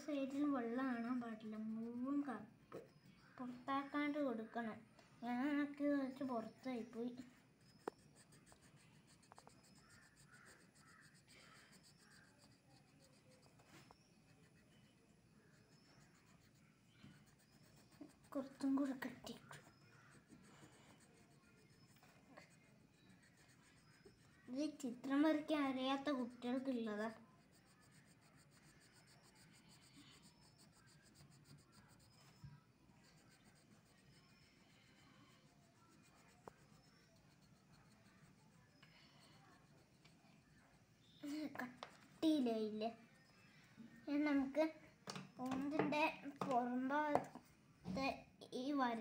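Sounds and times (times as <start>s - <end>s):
pencil scratching on paper: 0.0s - 4.1s, 5.5s - 43.5s.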